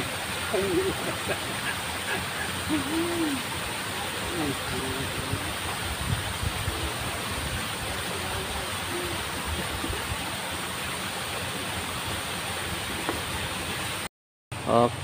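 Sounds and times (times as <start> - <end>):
water flowing in a ditch: 0.0 - 15.0.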